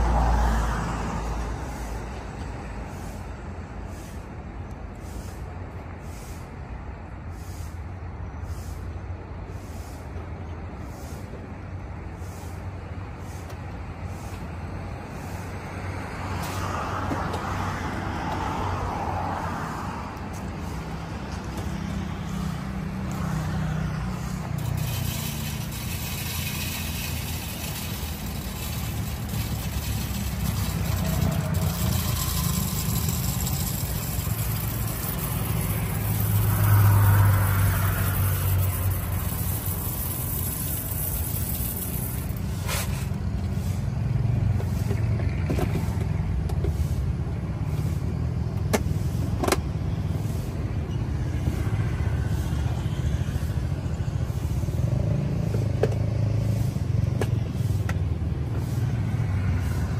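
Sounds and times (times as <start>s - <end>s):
low traffic rumble: 0.0s - 59.9s
vehicles passing by: 0.0s - 59.9s.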